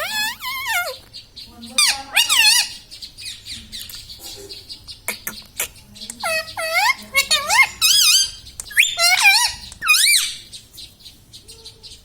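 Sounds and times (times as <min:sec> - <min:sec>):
parakeet squawking: 0:00.0 - 0:10.7.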